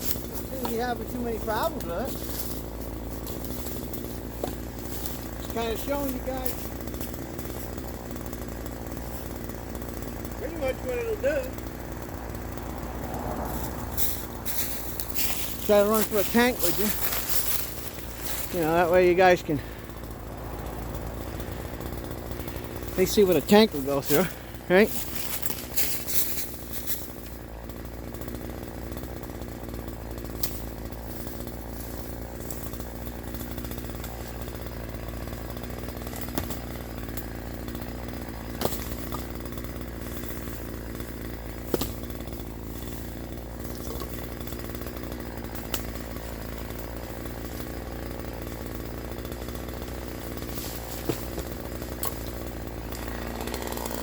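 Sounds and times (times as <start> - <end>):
chainsaw running: 0.0 - 54.0.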